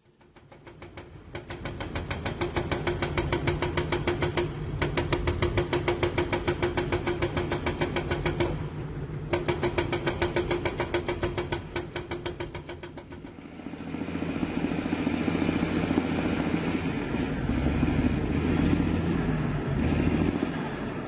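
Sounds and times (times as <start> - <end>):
rapid metallic clatter: 0.0 - 18.7
diesel engine running: 1.0 - 21.0.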